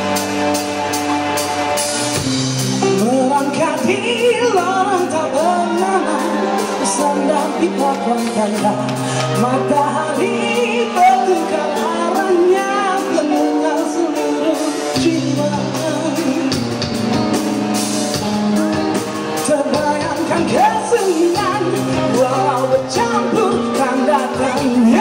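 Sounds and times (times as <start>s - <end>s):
band playing pop-rock: 0.0s - 25.0s
lead singer singing: 0.0s - 25.0s
steady bass line: 0.0s - 25.0s.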